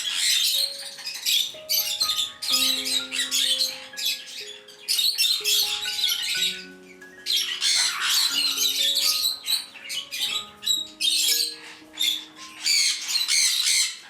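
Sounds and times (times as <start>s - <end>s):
background music of sustained notes: 0.0s - 14.0s
budgerigars chattering and squawking: 0.0s - 14.0s.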